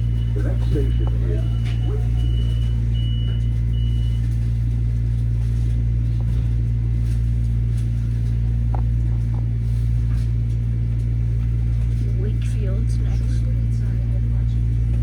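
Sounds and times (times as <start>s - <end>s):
train low hum and rumble: 0.0s - 15.0s.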